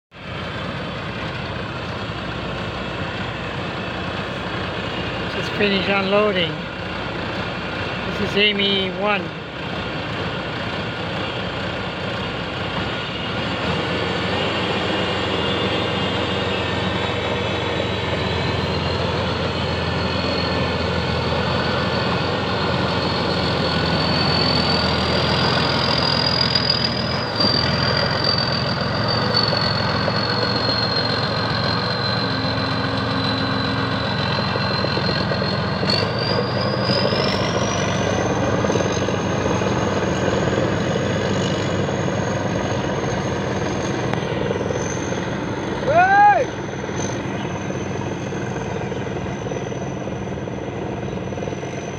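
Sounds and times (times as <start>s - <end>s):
combine harvester engine running: 0.1s - 51.9s
thin high whine: 8.1s - 50.7s.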